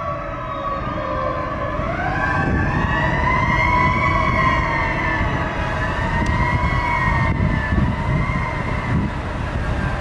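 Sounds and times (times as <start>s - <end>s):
fire truck siren wailing: 0.0s - 10.0s
truck engine rumble: 0.0s - 10.0s.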